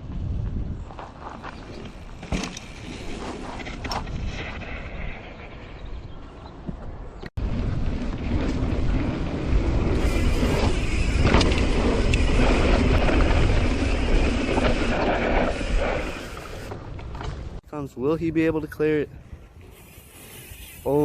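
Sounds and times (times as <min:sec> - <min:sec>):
bike rattling over dirt trail: 0:00.0 - 0:17.6
wind rumble on microphone: 0:00.0 - 0:17.6.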